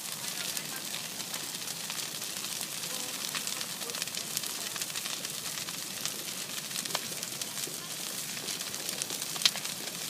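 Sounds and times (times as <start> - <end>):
bonfire crackling: 0.0 - 10.0.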